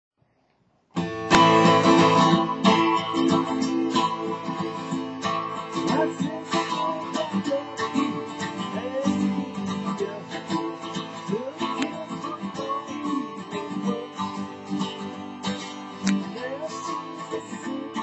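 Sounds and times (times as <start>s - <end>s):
acoustic guitar strumming chords: 1.0s - 18.0s.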